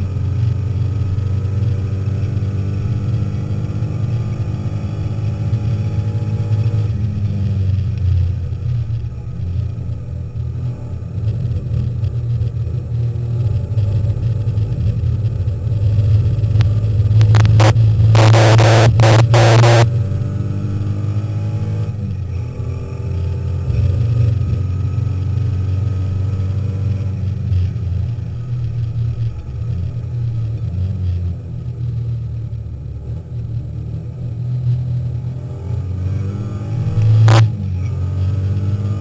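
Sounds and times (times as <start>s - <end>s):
race car engine at high revs: 0.0s - 39.0s.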